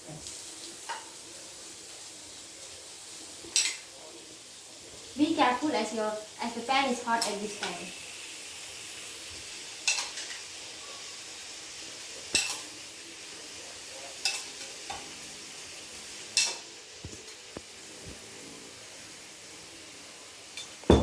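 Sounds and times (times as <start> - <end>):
prawns sizzling in hot oil: 0.0 - 21.0.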